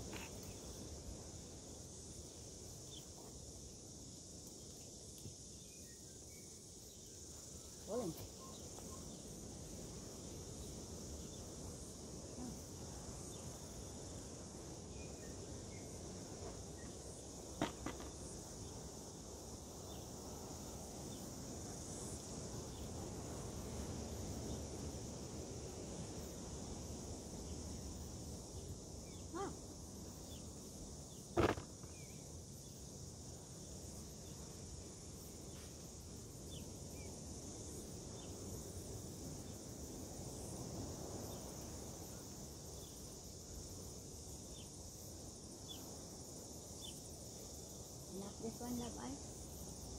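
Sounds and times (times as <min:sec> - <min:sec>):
high insect chorus: 0:00.0 - 0:49.9.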